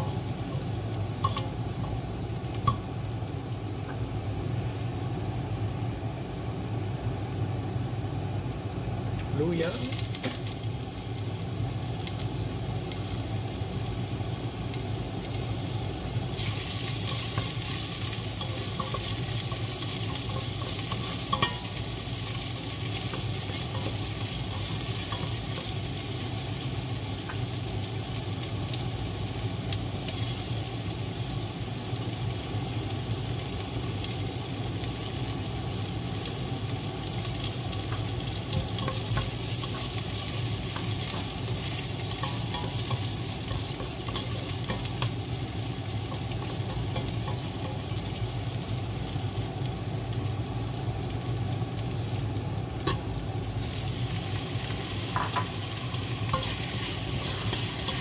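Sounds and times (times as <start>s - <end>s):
garlic sizzling in hot oil: 0.0s - 58.0s.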